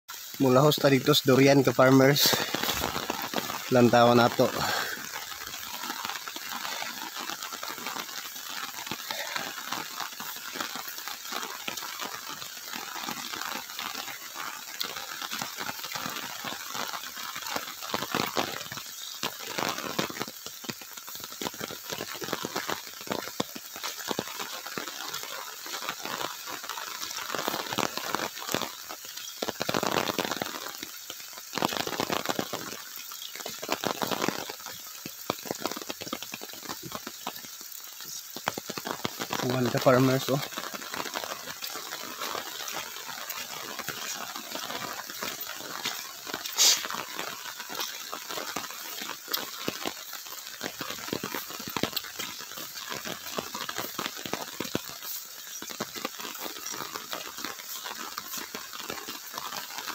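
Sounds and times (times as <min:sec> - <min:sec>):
rain pattering: 0:00.1 - 0:59.9.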